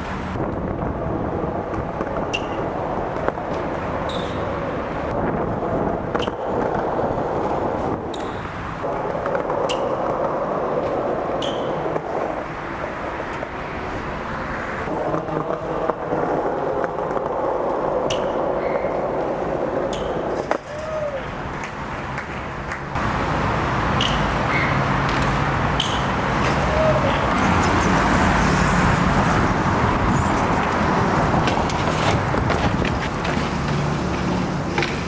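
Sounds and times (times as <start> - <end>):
street noise: 0.0 - 35.0
wheels rolling on pavement: 0.0 - 35.0.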